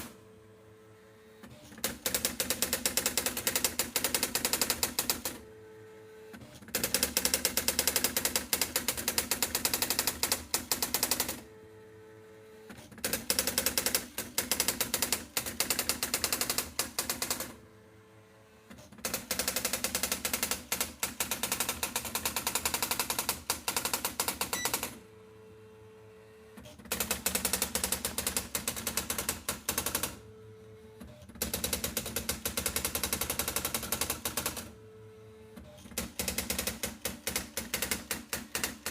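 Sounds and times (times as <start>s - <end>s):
electronic typewriter printing: 0.0s - 0.2s, 1.3s - 11.6s, 12.5s - 17.6s, 18.6s - 25.2s, 26.2s - 38.9s
steady typewriter hum: 0.0s - 38.9s.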